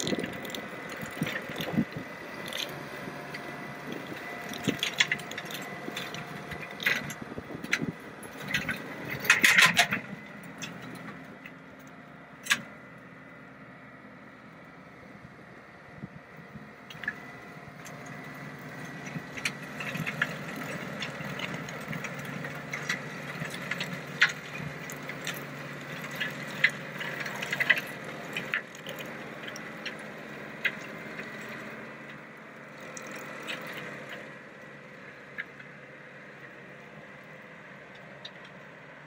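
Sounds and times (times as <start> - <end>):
tractor engine running under load: 0.0 - 39.0.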